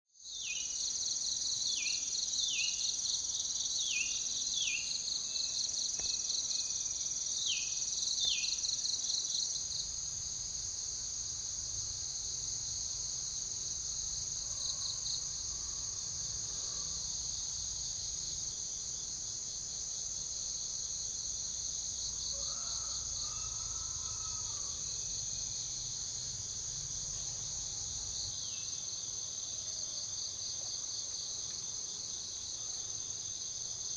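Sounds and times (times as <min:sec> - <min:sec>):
insect chorus: 0:00.2 - 0:33.9.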